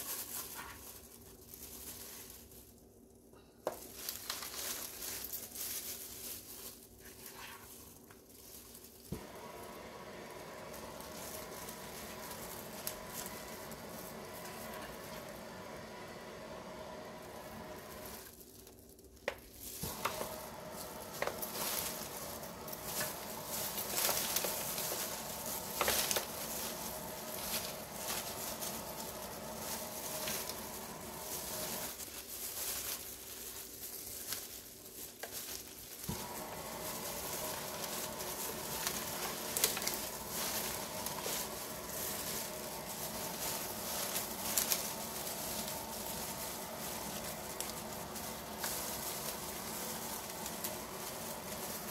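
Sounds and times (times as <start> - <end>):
plastic gloves and foil crinkling: 0.0 - 51.9.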